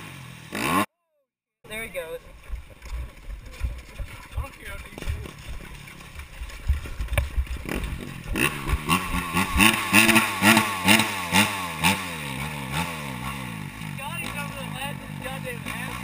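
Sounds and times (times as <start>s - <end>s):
dirt bike engine revving: 0.0s - 0.9s, 1.7s - 16.0s.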